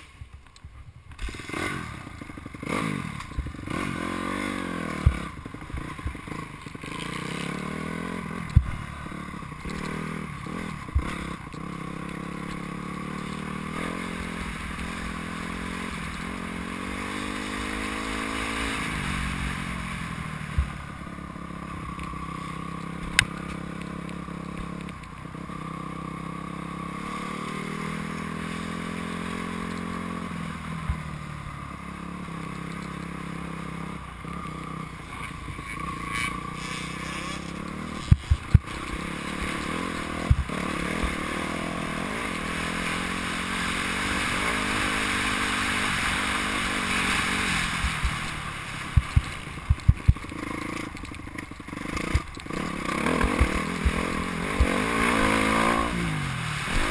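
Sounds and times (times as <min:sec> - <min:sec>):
motocross bike engine revving: 0:01.2 - 0:56.9.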